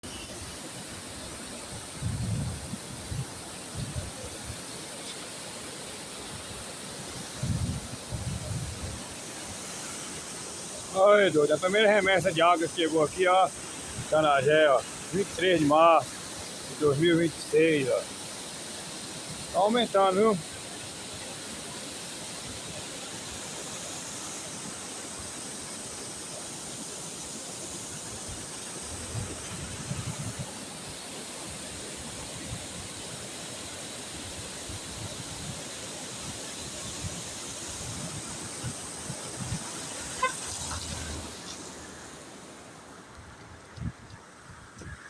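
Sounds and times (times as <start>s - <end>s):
floodwater rushing along a channel: 0.0s - 45.0s.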